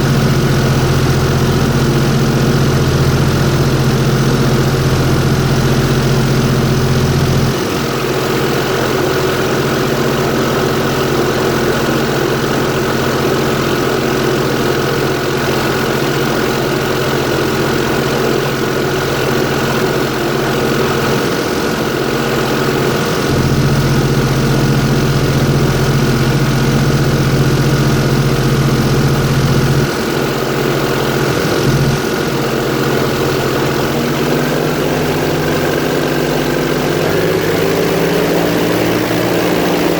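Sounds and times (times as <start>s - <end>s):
airboat engine drone: 0.0s - 39.9s.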